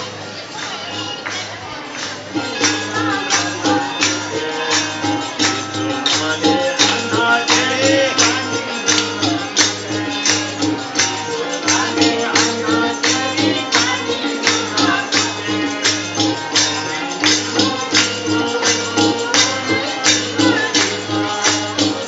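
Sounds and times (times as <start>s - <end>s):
clapped or jingling beat: 0.0s - 22.0s
tabla drums: 1.0s - 22.0s
person singing: 2.4s - 22.0s.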